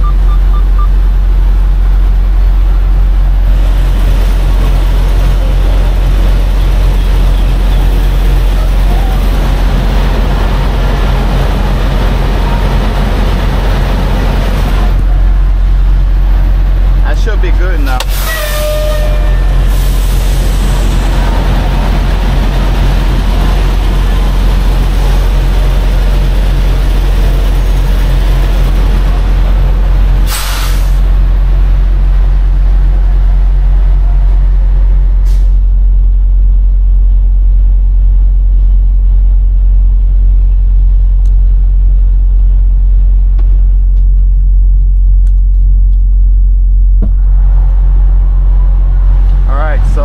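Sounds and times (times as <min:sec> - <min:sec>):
diesel truck engine idling: 0:00.0 - 0:50.0
outdoor noise: 0:00.0 - 0:50.0.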